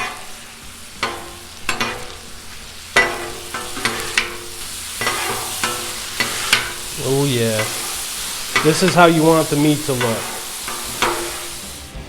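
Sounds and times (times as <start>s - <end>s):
spatula scraping steel griddle: 0.0s - 11.9s
meat sizzling on griddle: 0.0s - 12.0s.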